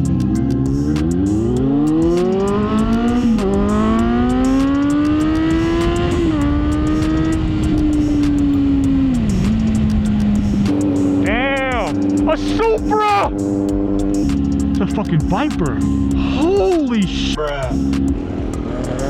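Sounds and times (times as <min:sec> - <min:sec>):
vehicle engine accelerating: 0:00.0 - 0:19.0.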